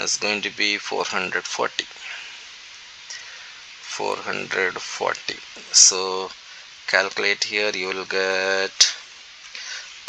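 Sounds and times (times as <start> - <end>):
recording background hiss: 0.0 - 10.0.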